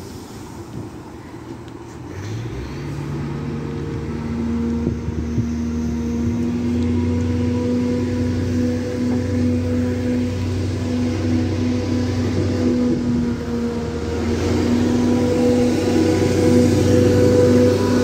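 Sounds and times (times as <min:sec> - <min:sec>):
train diesel engine powering up: 0:00.0 - 0:18.0.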